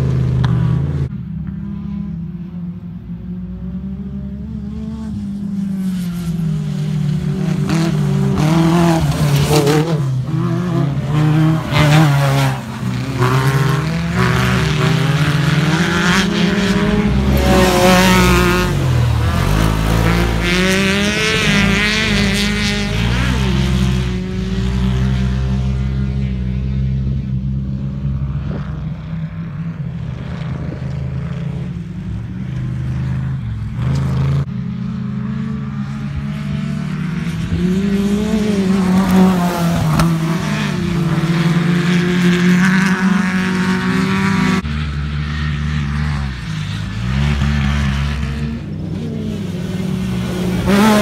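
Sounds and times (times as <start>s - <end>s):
racing buggy engines revving: 0.0s - 51.0s.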